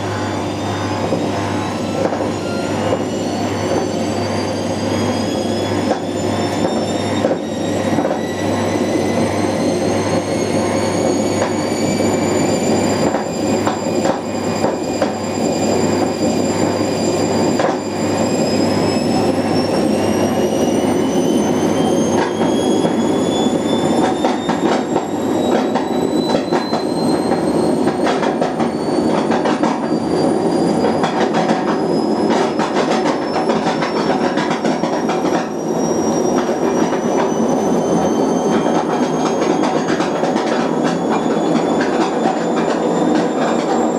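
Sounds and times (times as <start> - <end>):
washing machine spinning: 0.0 - 43.9.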